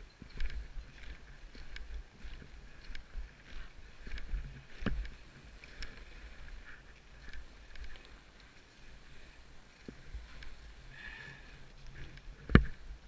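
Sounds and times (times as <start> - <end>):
skis swishing over snow: 2.0 - 13.0.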